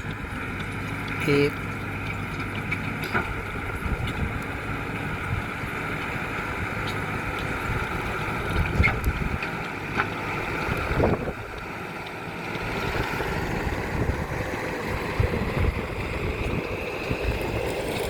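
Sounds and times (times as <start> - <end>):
loader engine running: 0.0 - 18.0.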